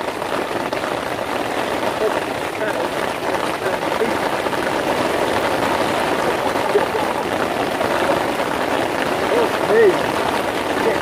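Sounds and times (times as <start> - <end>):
heavy rain on fabric canopy: 0.0 - 11.0.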